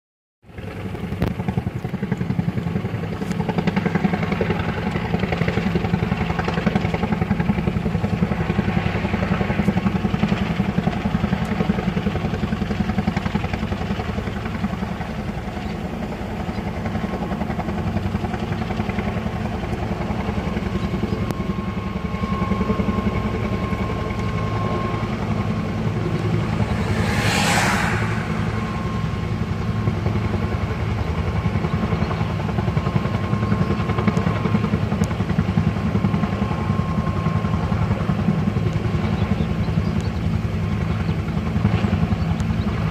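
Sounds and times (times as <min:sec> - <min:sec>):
helicopter rotor beating: 0:00.5 - 0:39.4.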